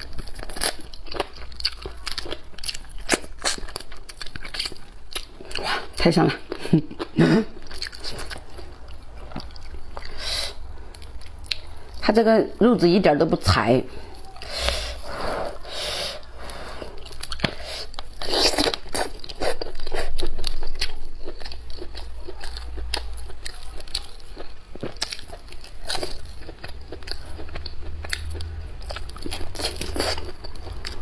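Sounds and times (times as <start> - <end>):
chewing and smacking: 0.0 - 12.0, 16.4 - 31.0.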